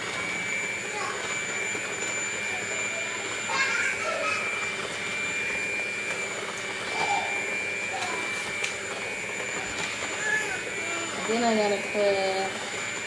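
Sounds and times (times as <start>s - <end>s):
electric hand mixer whining: 0.0s - 13.0s.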